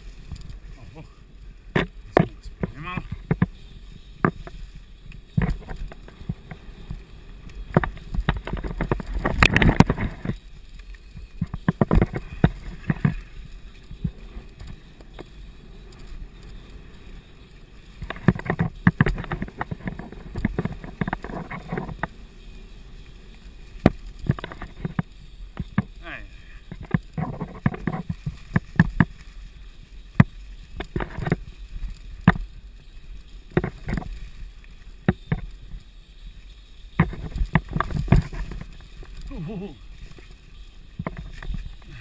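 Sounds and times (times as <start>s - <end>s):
bike rattling over bumps: 0.0s - 1.0s, 1.6s - 42.0s
bike tyres on dirt and leaves: 0.0s - 42.0s.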